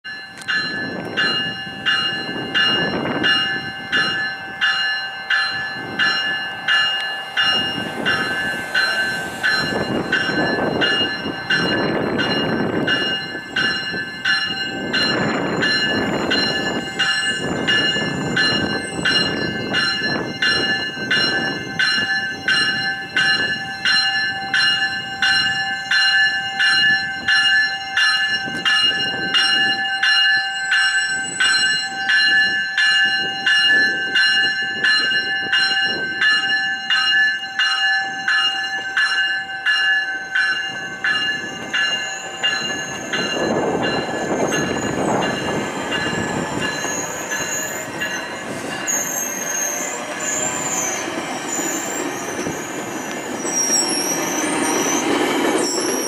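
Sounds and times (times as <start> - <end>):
train warning bell ringing: 0.0 - 56.0
train rumbling: 0.1 - 56.0.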